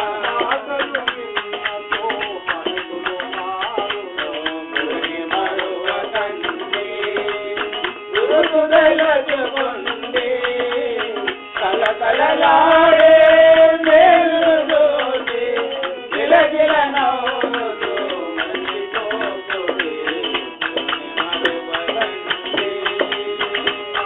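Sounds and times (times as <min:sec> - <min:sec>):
hand drum percussion: 0:00.0 - 0:24.0
person singing devotional song: 0:00.0 - 0:24.0.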